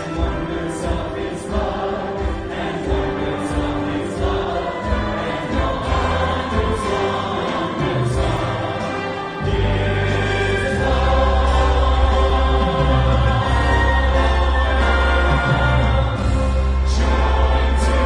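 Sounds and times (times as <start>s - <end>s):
choir singing a carol: 0.0s - 18.0s
instrumental accompaniment with bass: 0.0s - 18.0s.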